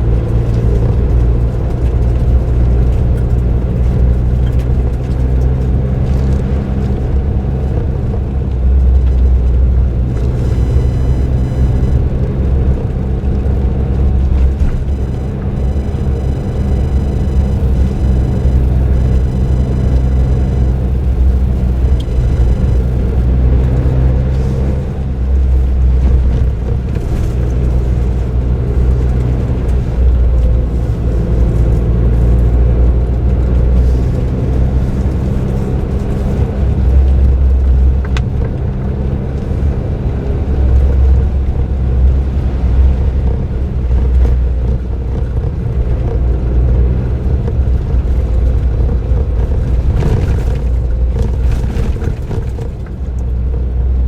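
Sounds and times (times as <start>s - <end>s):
car engine running while driving: 0.0s - 54.0s.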